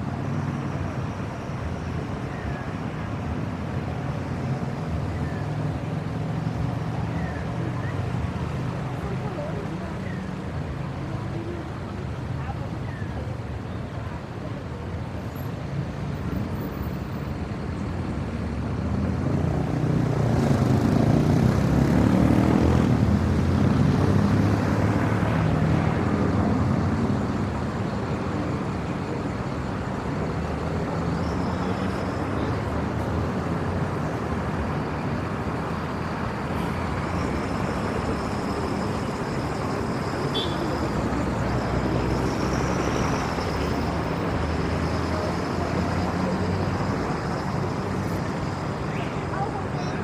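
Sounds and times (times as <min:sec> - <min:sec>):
city traffic noise: 0:00.0 - 0:50.0.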